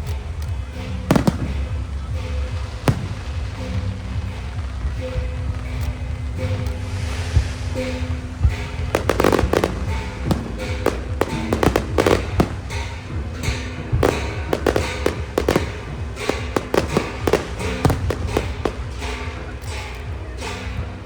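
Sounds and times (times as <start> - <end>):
background music: 0.0 - 21.0
fireworks bangs and crackles: 0.0 - 21.0.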